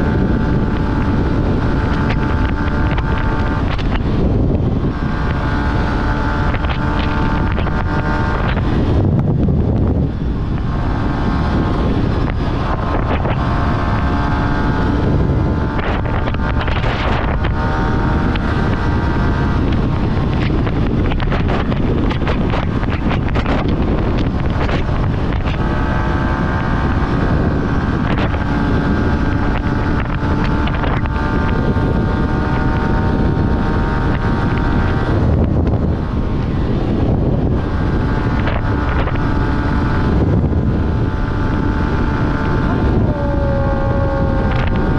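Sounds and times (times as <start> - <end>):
motorcycle engine running: 0.0 - 44.9
wind on microphone: 0.0 - 44.9.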